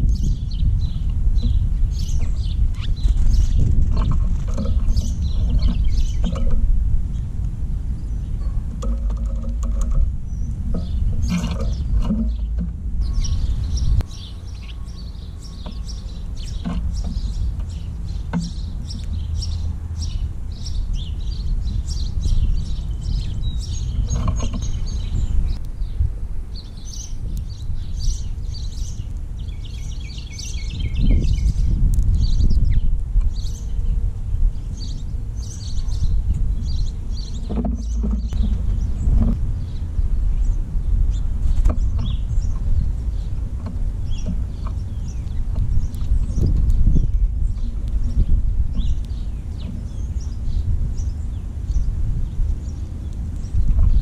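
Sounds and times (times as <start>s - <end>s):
songbirds chirping: 0.0s - 54.0s
steady low rumble: 0.0s - 54.0s.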